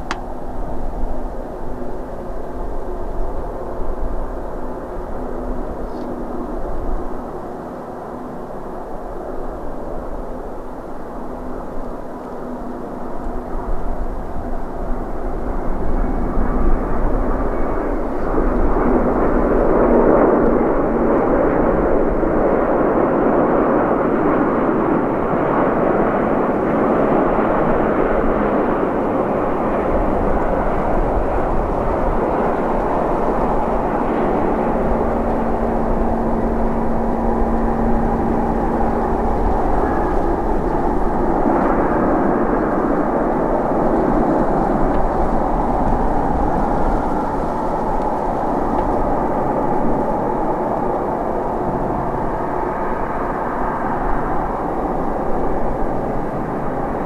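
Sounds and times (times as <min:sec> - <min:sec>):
jetliner engines running: 0:00.0 - 0:57.0.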